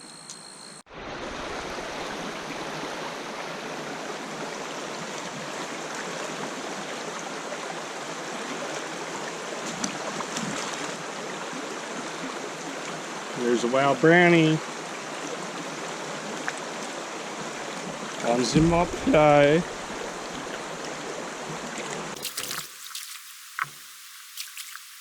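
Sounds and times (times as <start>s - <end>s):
stream water flowing: 0.9s - 25.0s.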